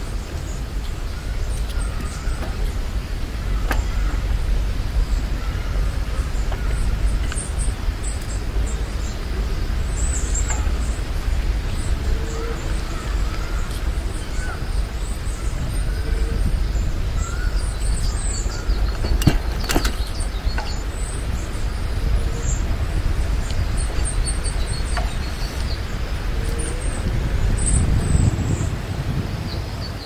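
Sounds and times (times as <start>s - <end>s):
low riding rumble: 0.0s - 30.0s
small birds chirping: 0.0s - 30.0s.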